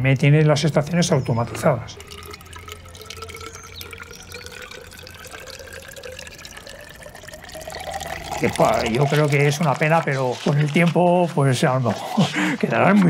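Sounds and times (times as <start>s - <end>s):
water trickling into glass cylinder: 0.1s - 11.0s.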